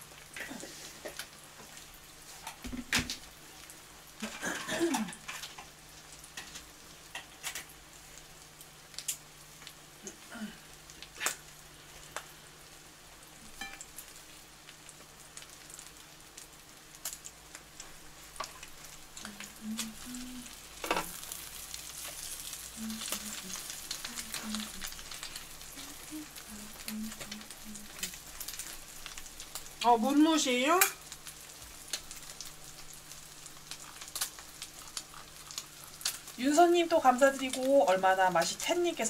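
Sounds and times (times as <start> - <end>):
bread sizzling in butter: 0.0 - 39.0.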